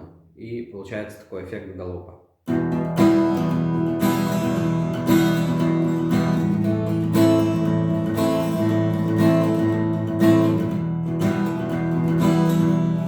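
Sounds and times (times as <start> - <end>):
acoustic guitar strumming: 2.5 - 13.0.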